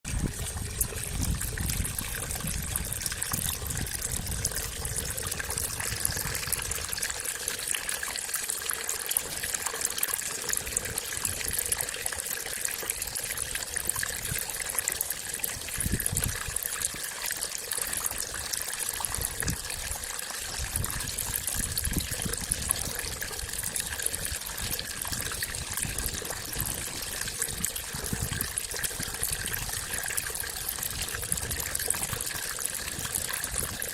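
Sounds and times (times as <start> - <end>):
water trickling: 0.1 - 33.9.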